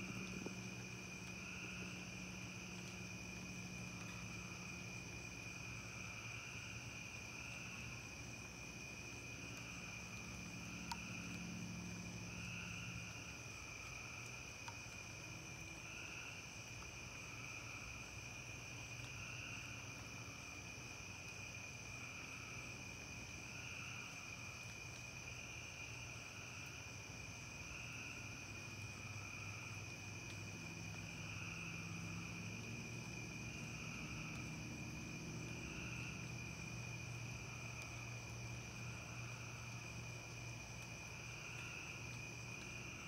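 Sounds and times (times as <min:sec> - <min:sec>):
crickets trilling: 0:00.0 - 0:43.0.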